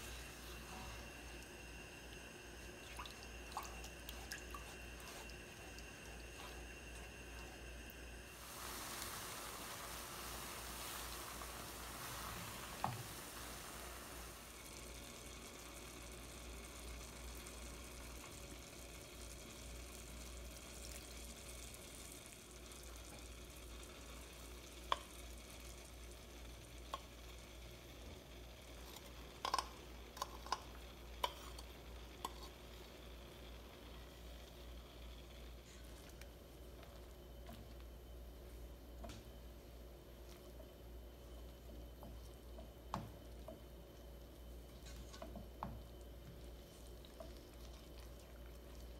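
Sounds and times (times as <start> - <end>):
sugar syrup boiling: 0.0 - 48.9.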